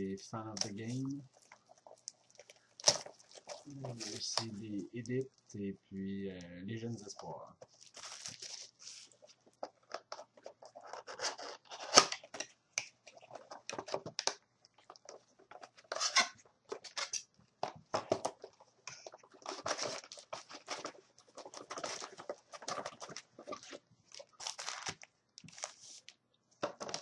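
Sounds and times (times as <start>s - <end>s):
card packaging rustling and tearing: 0.5s - 5.2s, 6.8s - 17.2s, 17.9s - 27.0s.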